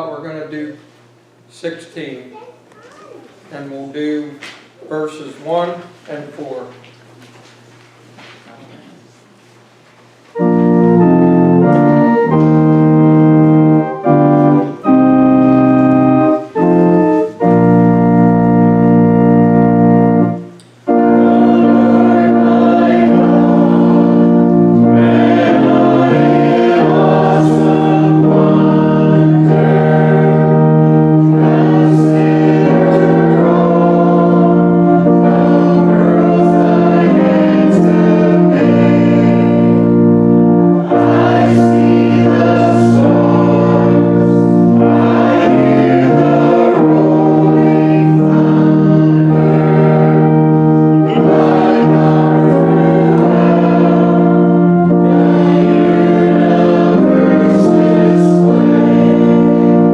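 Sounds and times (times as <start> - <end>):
congregation singing a hymn: 10.3 - 59.9
organ playing held chords: 10.3 - 59.9.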